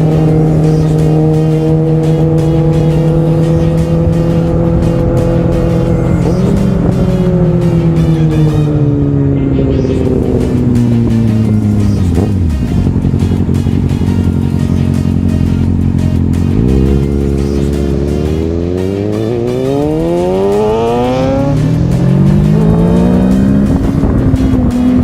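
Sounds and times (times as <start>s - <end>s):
background music: 0.0s - 25.0s
motorcycle engine accelerating: 0.0s - 25.0s.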